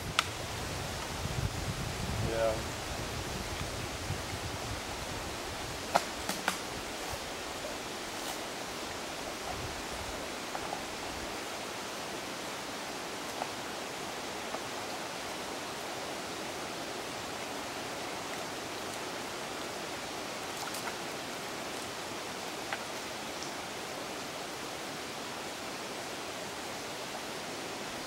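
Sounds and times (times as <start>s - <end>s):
creek running over stones: 0.0s - 28.0s.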